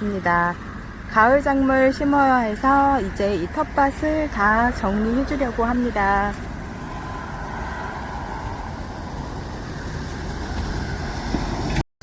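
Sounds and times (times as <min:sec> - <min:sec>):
low outdoor rumble: 0:00.0 - 0:11.8.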